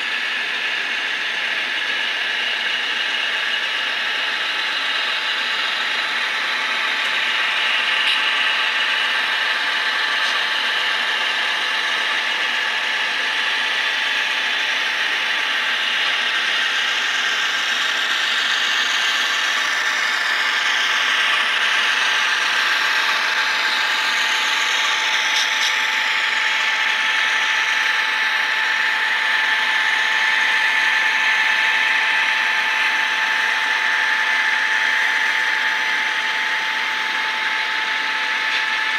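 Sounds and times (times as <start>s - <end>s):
model train motor whine: 0.0s - 38.9s.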